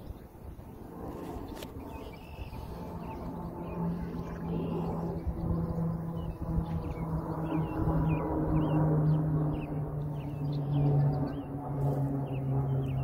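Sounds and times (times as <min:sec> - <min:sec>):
low drone: 0:00.0 - 0:13.0
small birds chirping: 0:00.0 - 0:13.0.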